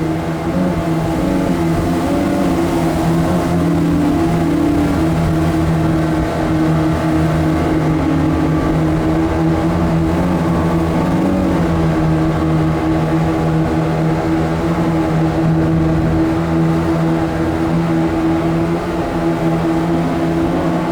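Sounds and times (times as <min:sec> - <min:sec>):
boat engine running: 0:00.0 - 0:20.9
river rapids rushing: 0:00.0 - 0:20.9.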